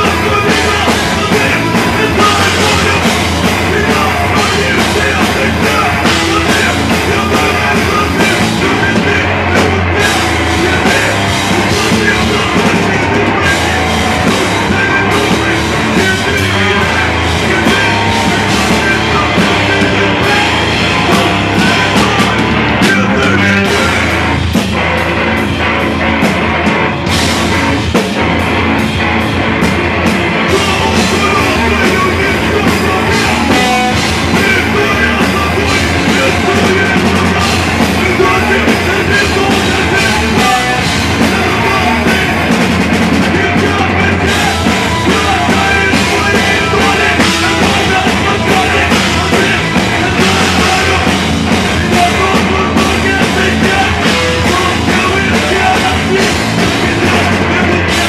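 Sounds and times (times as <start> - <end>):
person singing into microphone: 0.0 - 24.6, 30.4 - 58.0
drum kit: 0.0 - 58.0
electric guitars: 0.0 - 58.0.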